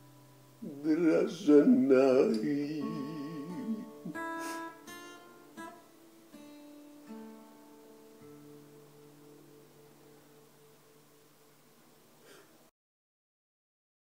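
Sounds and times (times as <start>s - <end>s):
acoustic guitar strumming: 0.0s - 12.3s.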